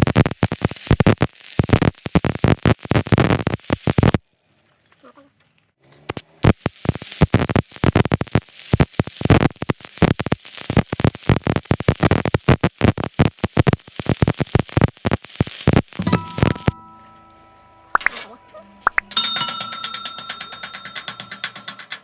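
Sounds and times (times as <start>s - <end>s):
welding arc crackling and popping: 0.0s - 4.3s, 5.9s - 22.0s.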